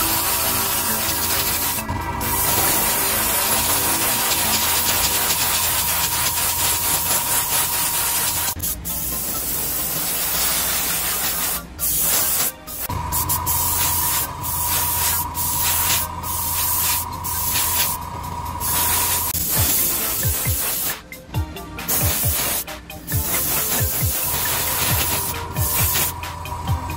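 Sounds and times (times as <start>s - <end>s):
airbrush spraying hiss: 0.0s - 18.0s, 18.6s - 21.0s, 21.8s - 26.3s
spray booth fan hum: 0.0s - 26.9s.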